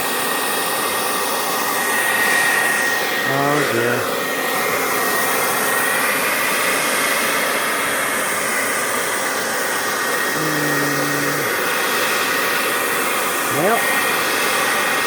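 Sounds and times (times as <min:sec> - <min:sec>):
blow dryer running: 0:00.0 - 0:15.0.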